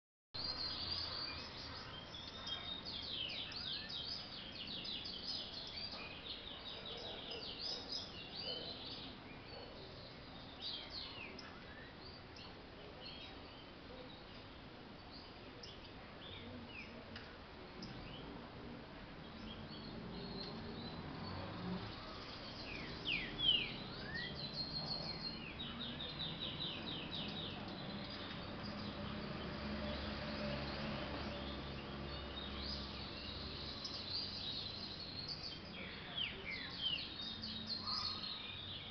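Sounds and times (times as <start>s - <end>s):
birds chirping rapidly: 0.4s - 38.9s.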